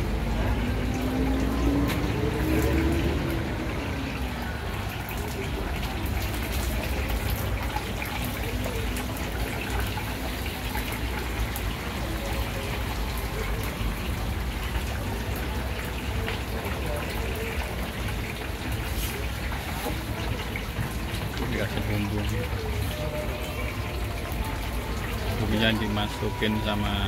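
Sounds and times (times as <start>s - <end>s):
oil sizzling in deep fryer: 0.0s - 27.0s.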